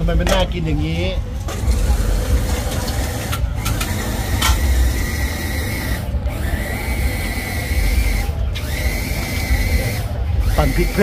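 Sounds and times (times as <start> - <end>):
thin steady whine: 1.4 - 11.0.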